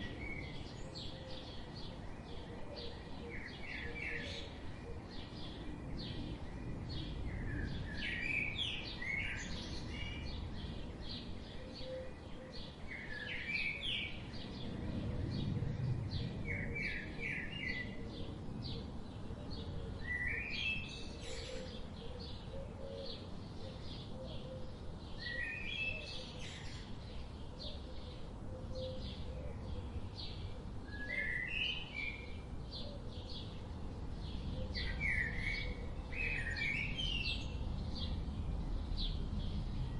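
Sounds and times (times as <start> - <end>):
low background noise: 0.0 - 39.9
wild birds chirping: 0.0 - 39.9.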